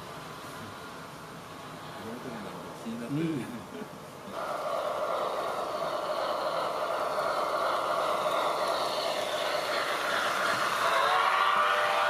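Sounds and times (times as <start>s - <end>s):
model train rolling and whirring: 0.0s - 12.0s.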